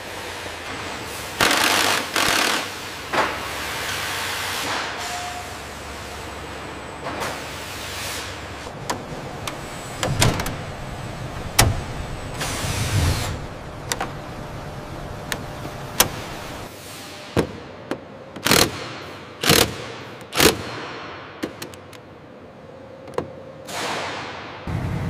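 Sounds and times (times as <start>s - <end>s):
workshop hum: 0.0s - 25.0s.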